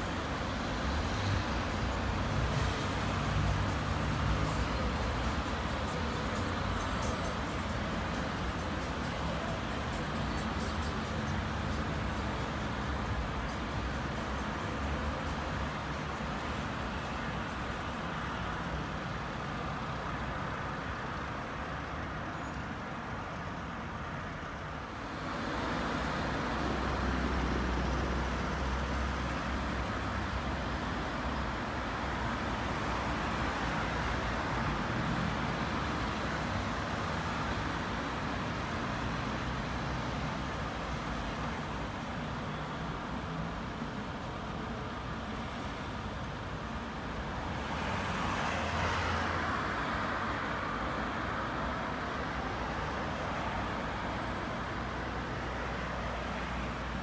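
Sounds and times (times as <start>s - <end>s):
low traffic rumble: 0.0s - 57.0s
passing cars: 0.0s - 57.0s.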